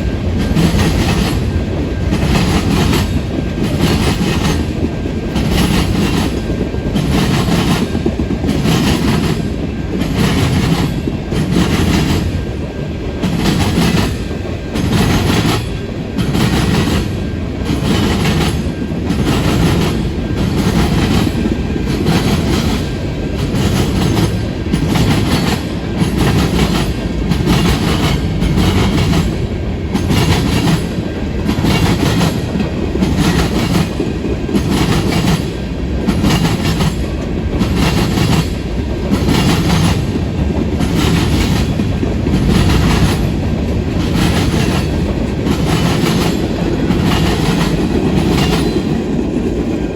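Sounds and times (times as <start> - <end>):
low train rumble: 0.0 - 49.9
train wheels clicking over rail joints: 0.0 - 49.9.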